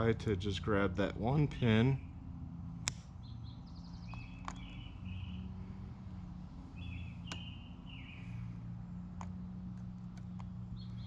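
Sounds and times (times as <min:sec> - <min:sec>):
distant lawnmower engine drone: 0:00.0 - 0:11.0
songbird singing: 0:00.0 - 0:11.0.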